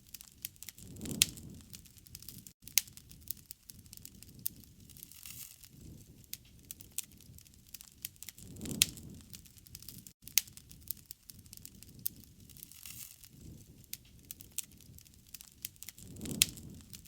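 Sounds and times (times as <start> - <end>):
campfire crackling: 0.0 - 17.0
soft low rush of fire: 0.1 - 17.0.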